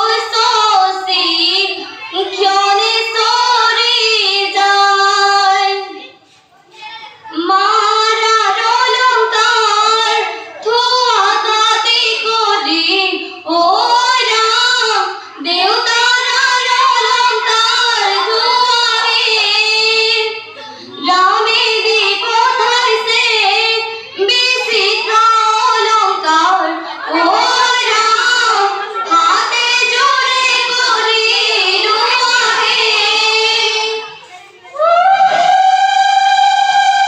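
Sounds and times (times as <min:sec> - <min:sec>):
girls singing in unison: 0:00.0 - 0:06.3, 0:07.3 - 0:37.0.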